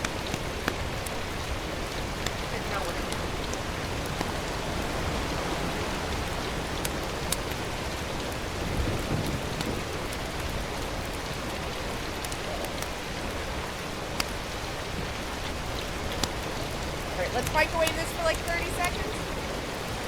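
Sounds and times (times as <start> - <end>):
rain-like hiss: 0.0 - 20.0.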